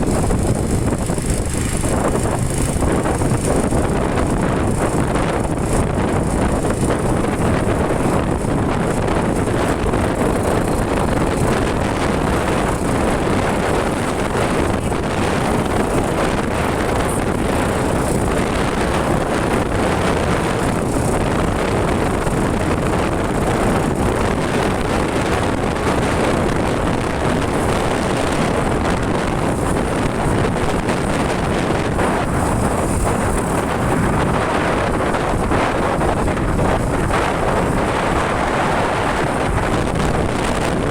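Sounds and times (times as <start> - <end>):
motorcycle engine running: 0.0 - 40.9
road noise: 0.0 - 40.9
wind rush on microphone: 0.0 - 40.9.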